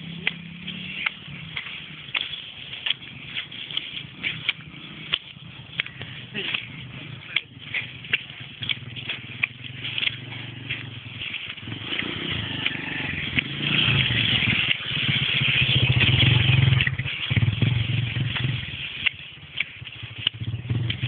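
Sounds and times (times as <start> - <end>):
small motorcycle engine passing: 0.0 - 21.0.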